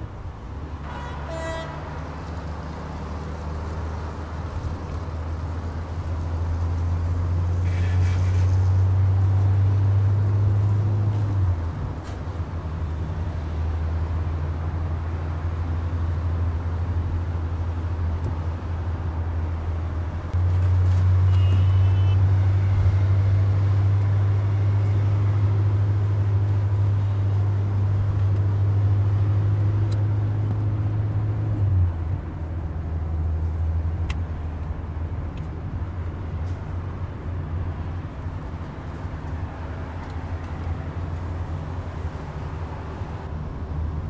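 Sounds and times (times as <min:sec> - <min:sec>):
car engine and tyre drone: 0:00.0 - 0:44.0.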